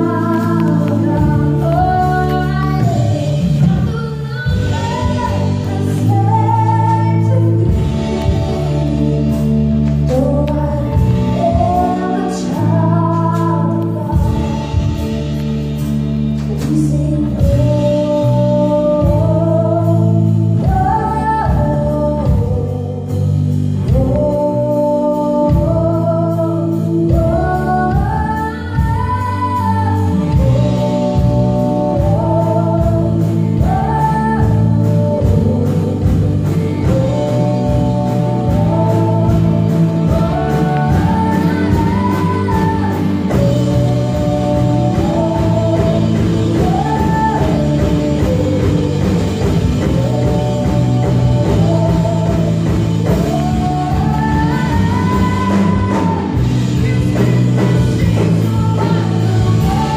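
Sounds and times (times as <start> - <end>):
live band playing: 0.0 - 59.9
woman singing: 0.0 - 59.9.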